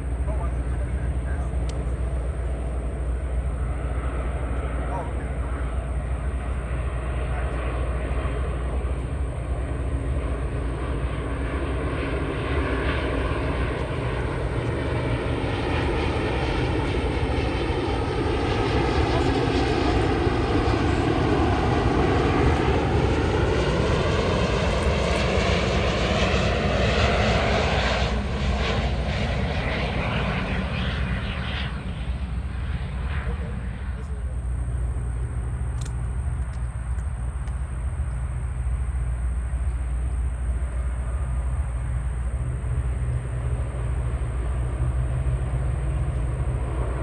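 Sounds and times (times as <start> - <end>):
jet airliner flying past: 0.0 - 47.0.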